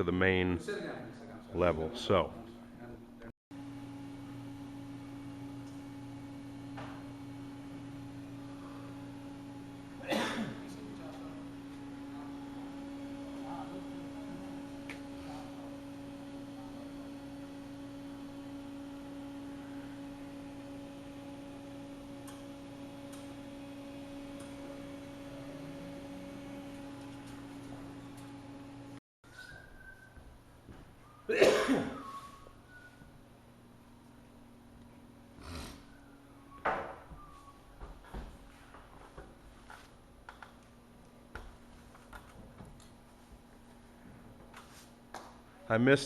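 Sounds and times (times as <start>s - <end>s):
low electrical hum: 0.0s - 29.0s, 30.1s - 46.0s.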